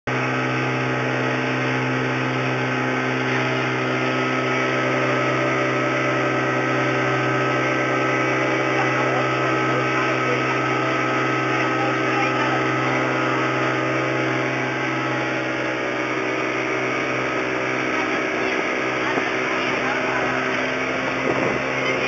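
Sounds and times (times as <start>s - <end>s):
boat engine droning: 0.1s - 22.0s.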